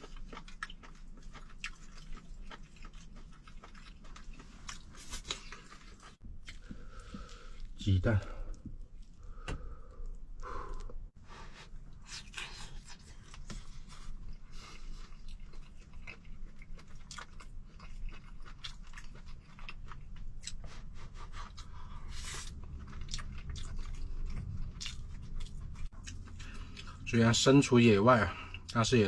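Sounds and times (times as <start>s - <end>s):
person chewing and crunching: 0.0s - 10.9s, 11.9s - 29.0s.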